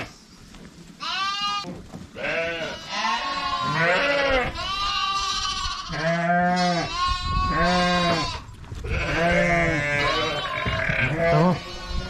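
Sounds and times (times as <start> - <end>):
sheep bleating: 1.0 - 12.0.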